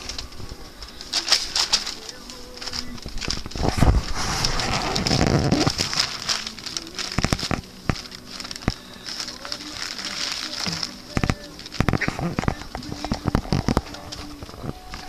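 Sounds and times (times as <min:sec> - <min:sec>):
newspaper crinkling and tearing: 0:00.0 - 0:15.0.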